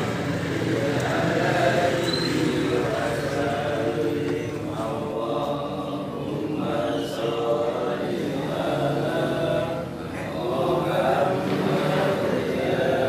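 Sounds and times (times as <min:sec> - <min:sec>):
man chanting call to prayer: 0:00.5 - 0:13.0.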